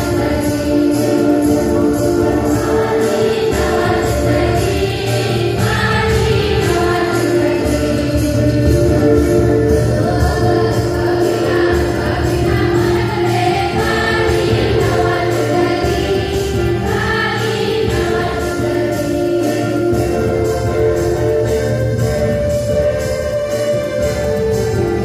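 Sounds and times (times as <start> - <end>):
choir singing a hymn: 0.0 - 25.0
instrumental accompaniment: 0.0 - 25.0.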